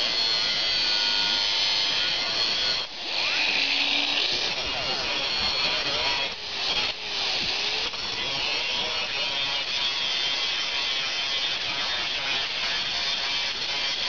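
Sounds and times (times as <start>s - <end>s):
angle grinder cutting steel rod: 0.0s - 14.0s.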